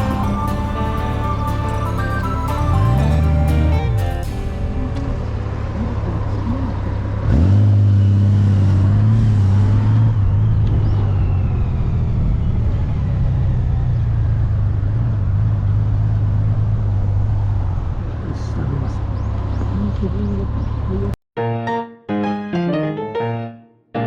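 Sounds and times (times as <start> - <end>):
motorcycle engine accelerating: 0.0 - 21.1
road and wind noise: 0.0 - 21.2.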